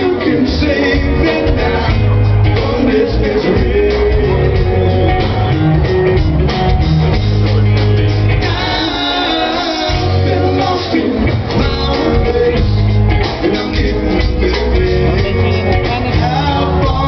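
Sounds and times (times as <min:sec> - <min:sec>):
person singing: 0:00.0 - 0:05.6, 0:08.4 - 0:17.0
live rock band playing: 0:00.0 - 0:17.0.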